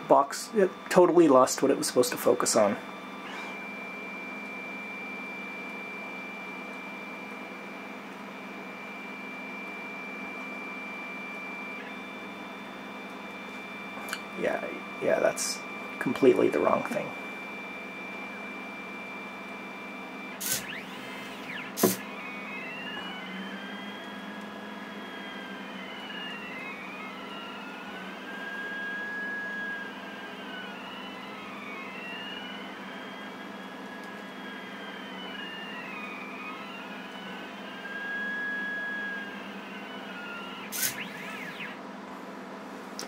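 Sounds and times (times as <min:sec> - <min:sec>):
stepper motors whining: 0:00.0 - 0:41.9.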